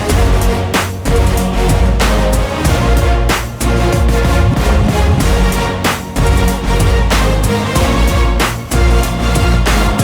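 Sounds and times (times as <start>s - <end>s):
background music with heavy bass: 0.0s - 10.0s
drum-like hits: 0.0s - 10.0s.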